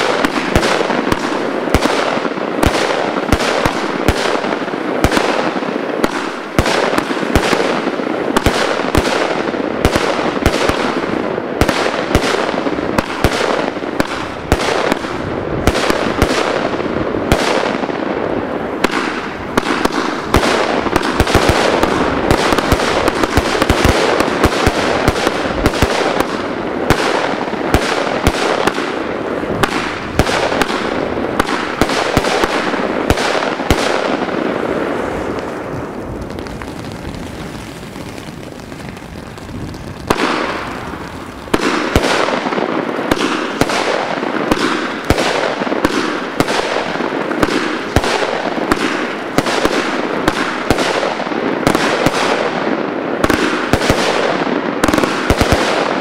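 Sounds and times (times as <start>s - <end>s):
firework shots and bursts: 0.0s - 56.0s.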